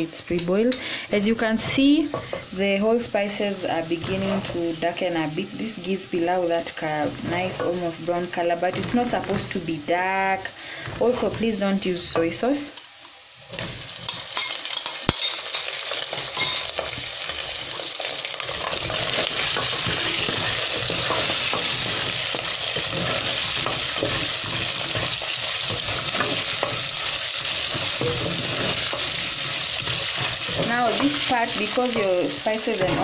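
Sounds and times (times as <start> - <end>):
meat sizzling in hot oil: 0.0 - 33.0.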